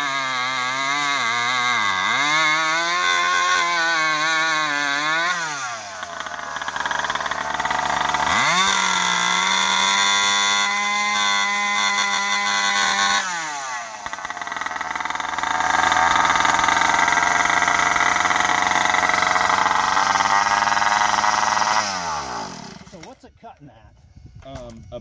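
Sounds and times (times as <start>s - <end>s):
chainsaw revving: 0.0s - 23.2s.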